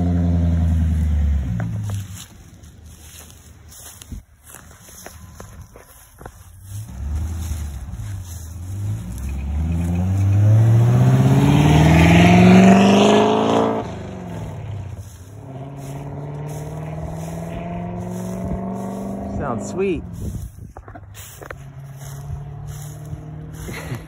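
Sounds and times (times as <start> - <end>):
car engine accelerating hard: 0.0 - 3.4, 5.9 - 24.0.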